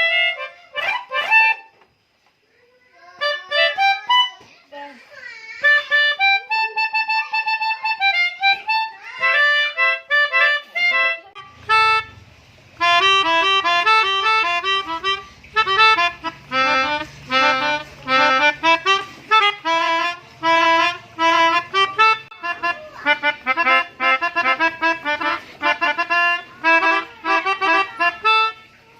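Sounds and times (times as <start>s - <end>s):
melodica playing quick runs: 0.0s - 1.7s, 3.2s - 4.4s, 5.7s - 28.9s.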